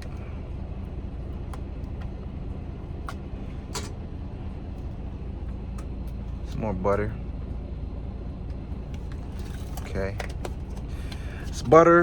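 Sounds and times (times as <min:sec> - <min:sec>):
semi-truck idling: 0:00.0 - 0:12.0.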